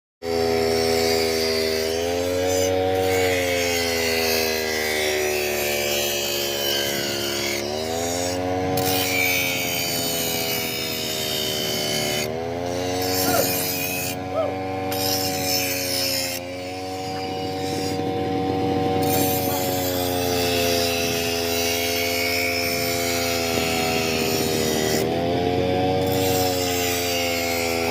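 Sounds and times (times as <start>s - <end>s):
grass cutting rasp: 0.2s - 27.9s
brush cutter engine running: 0.3s - 27.9s.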